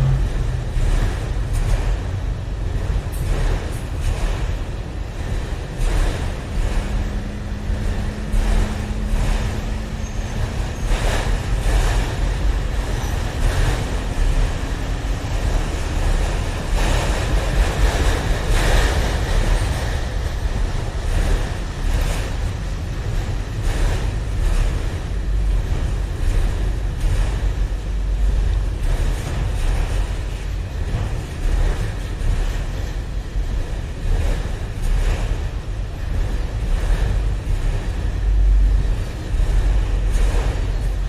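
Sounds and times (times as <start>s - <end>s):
freight train rumbling past: 0.0s - 41.0s
train cars knocking and clanking: 0.0s - 41.0s.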